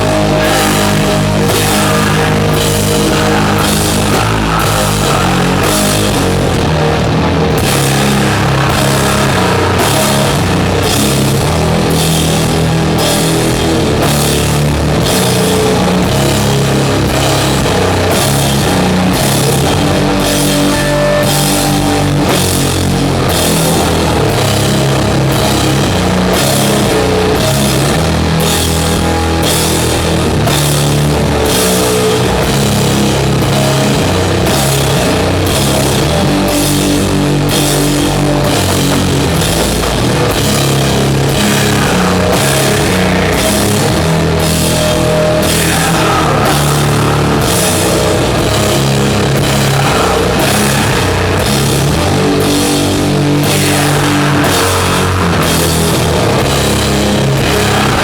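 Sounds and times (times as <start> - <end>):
bending guitar notes: 0.0 - 58.0
distorted guitars and bass: 0.0 - 58.0.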